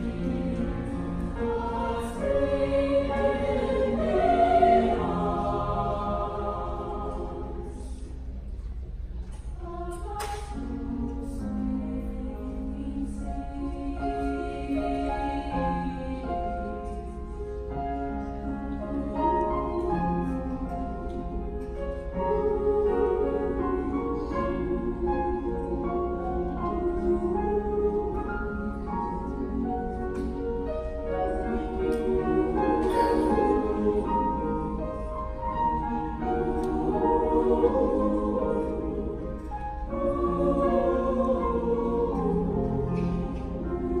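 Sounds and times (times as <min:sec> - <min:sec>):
choir singing: 0:00.0 - 0:08.6, 0:09.5 - 0:44.0
piano accompaniment: 0:00.0 - 0:08.8, 0:09.8 - 0:44.0.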